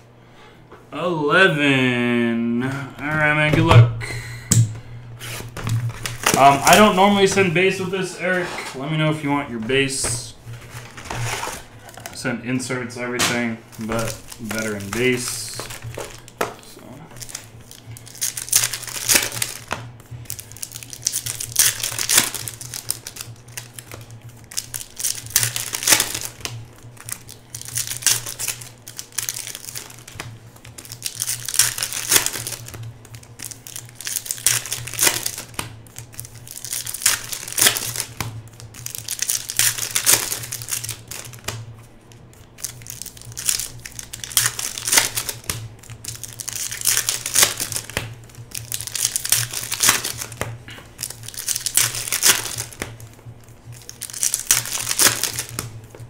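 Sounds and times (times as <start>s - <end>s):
steady low hum: 0.0s - 56.0s
foil wrappers crinkling: 2.6s - 56.0s
packs being torn open: 5.2s - 7.4s, 13.2s - 56.0s.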